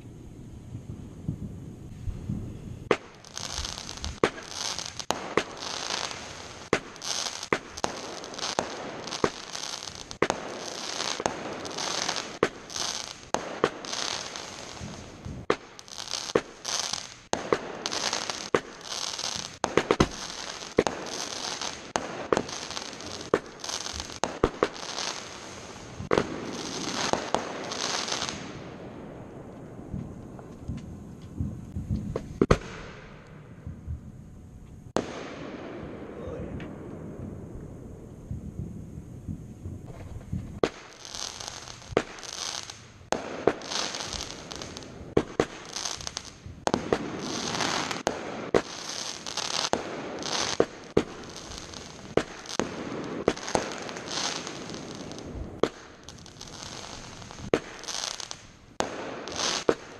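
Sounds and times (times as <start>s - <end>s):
fireworks hissing bursts: 0.0s - 29.1s, 38.4s - 59.9s
fireworks bangs: 0.0s - 59.9s.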